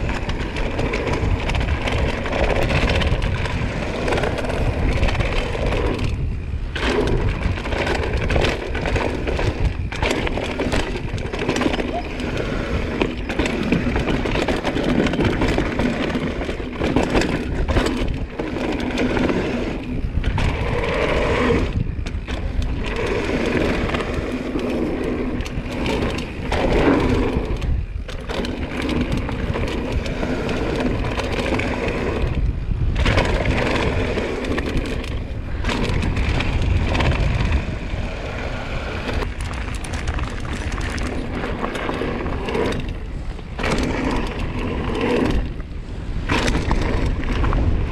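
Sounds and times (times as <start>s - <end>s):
bike clattering over rocks: 0.0s - 21.4s, 22.0s - 32.3s, 39.2s - 47.9s
bike tyres crunching over dirt: 0.0s - 47.9s
wind on microphone: 0.0s - 47.9s.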